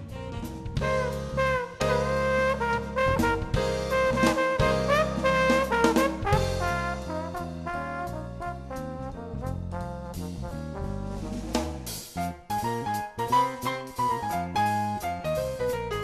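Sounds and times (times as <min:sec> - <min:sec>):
jazzy brass music with drums: 0:00.0 - 0:16.0.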